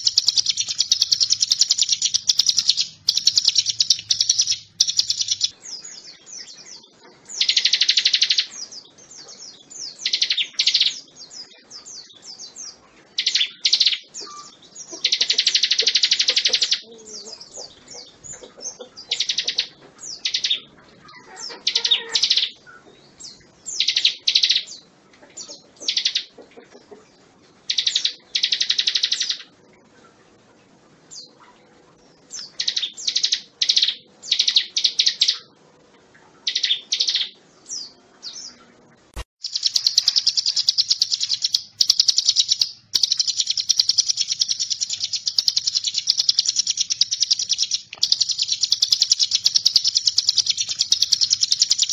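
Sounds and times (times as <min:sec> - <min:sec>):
bird trilling song: 0:00.0 - 0:30.2, 0:31.1 - 0:35.6, 0:36.2 - 0:51.9.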